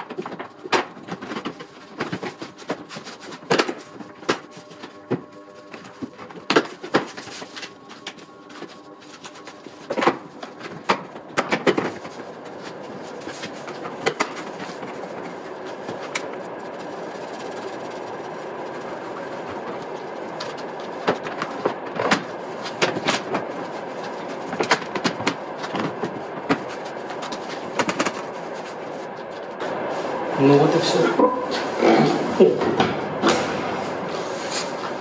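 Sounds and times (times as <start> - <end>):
steady background noise: 0.0 - 35.0.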